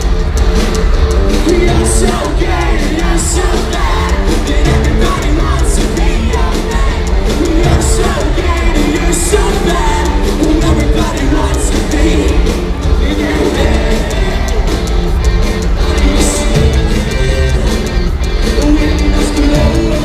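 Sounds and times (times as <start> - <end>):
live rock band playing: 0.0 - 20.0
person singing: 1.1 - 20.0.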